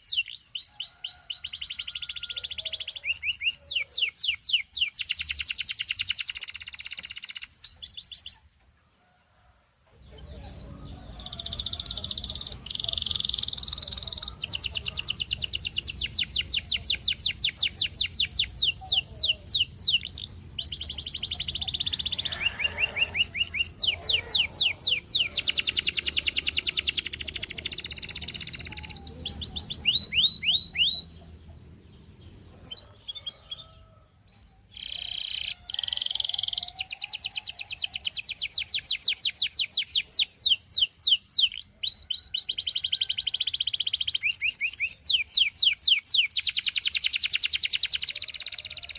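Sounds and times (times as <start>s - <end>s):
canary singing trills: 0.0s - 8.5s, 10.0s - 48.9s.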